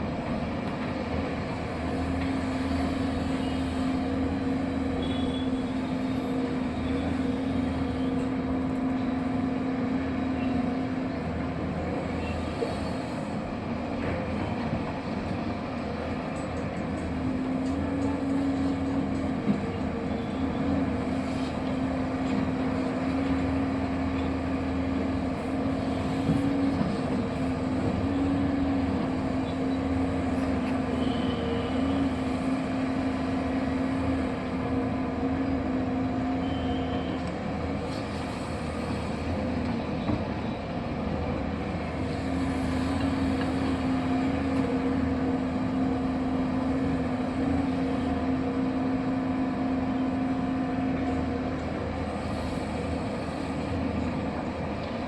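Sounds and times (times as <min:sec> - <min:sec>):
machine engine humming: 0:00.0 - 0:55.0.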